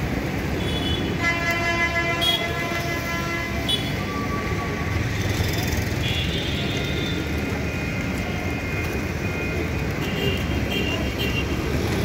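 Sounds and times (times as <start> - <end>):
low rumble of city traffic: 0.0 - 12.0.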